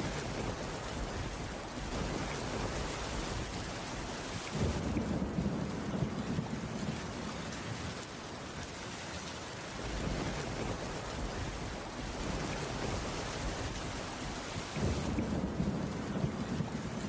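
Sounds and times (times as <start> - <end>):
rain on a wooden roof: 0.0 - 17.0.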